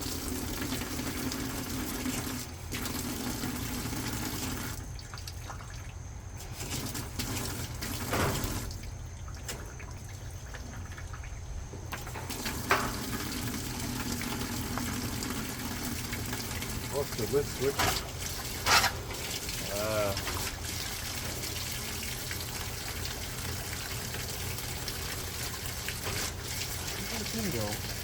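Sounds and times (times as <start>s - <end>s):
washing machine hum: 0.0s - 28.0s
water running into washing machine: 0.0s - 28.0s.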